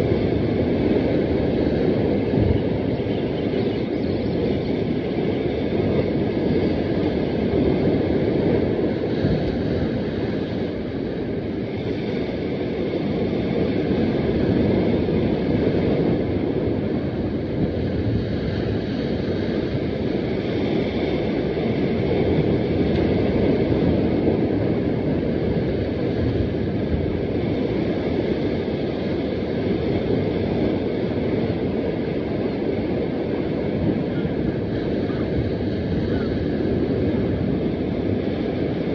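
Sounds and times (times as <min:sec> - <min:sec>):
sea surf on rocks: 0:00.0 - 0:03.6, 0:04.5 - 0:38.9
wind buffeting microphone: 0:00.0 - 0:38.9.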